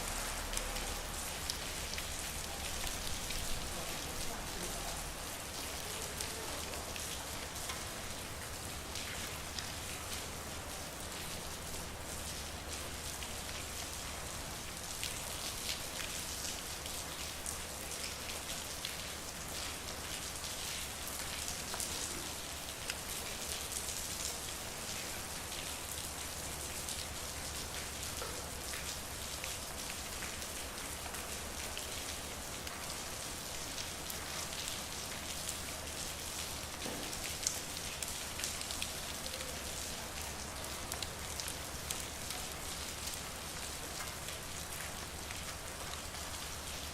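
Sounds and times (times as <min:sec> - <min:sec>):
rain falling on street: 0:00.0 - 0:46.9.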